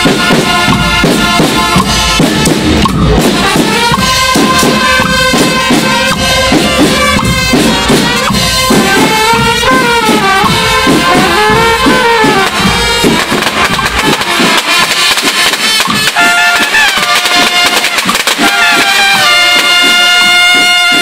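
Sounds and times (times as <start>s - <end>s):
deep drum beat: 0.0s - 21.0s
marching band trumpets: 0.0s - 21.0s.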